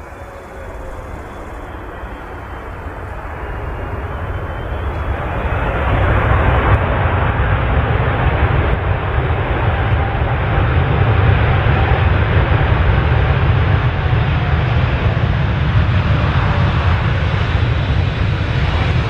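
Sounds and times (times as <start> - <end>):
jet engines roaring on landing: 0.0 - 19.0.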